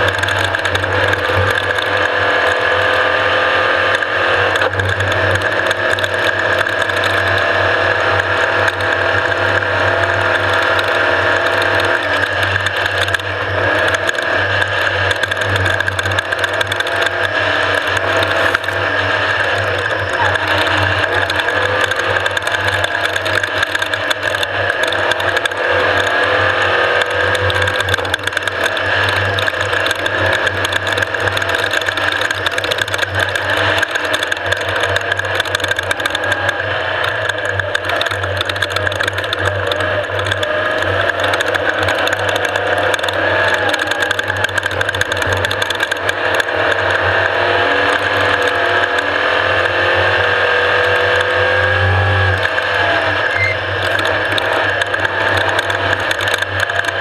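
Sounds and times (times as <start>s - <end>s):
dense mechanical rattle: 0.0s - 57.0s
off-road vehicle engine whine: 0.0s - 57.0s.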